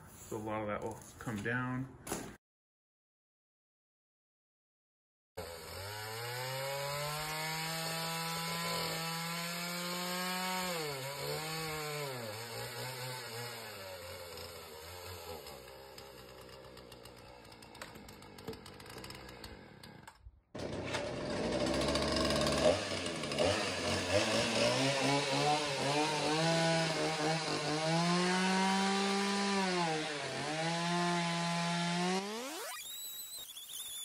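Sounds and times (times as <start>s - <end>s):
chainsaw cutting styrofoam: 5.4s - 34.0s.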